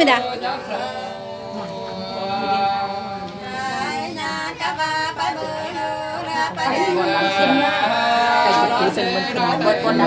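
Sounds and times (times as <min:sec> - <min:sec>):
voices singing together: 0:00.0 - 0:10.0.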